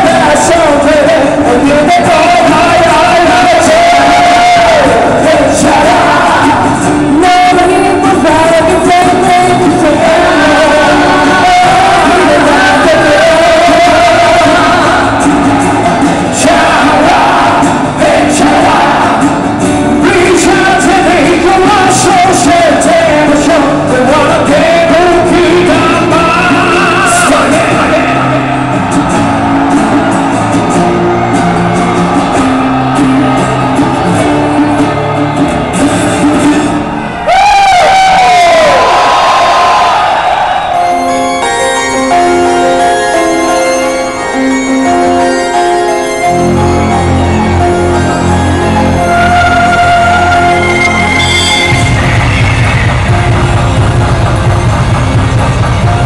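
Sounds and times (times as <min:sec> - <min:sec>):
pop-rock song over sound system: 0:00.0 - 0:56.0.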